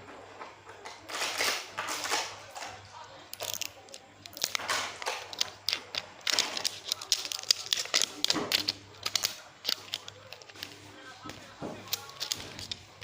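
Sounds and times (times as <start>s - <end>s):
toy packaging crinkling: 0.8s - 13.0s.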